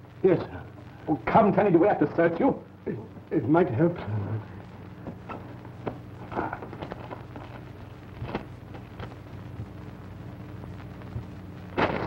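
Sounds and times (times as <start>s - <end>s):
film soundtrack hum and hiss: 0.0s - 12.0s.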